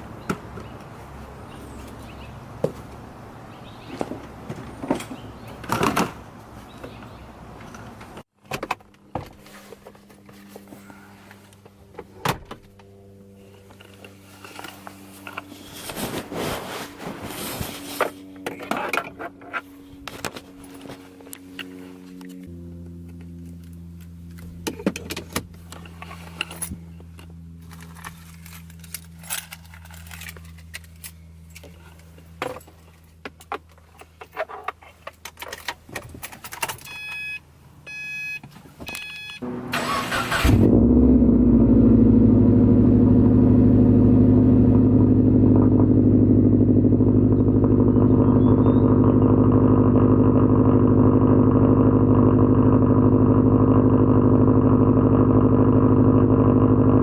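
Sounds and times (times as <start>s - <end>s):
car engine starting and idling: 10.2s - 57.0s.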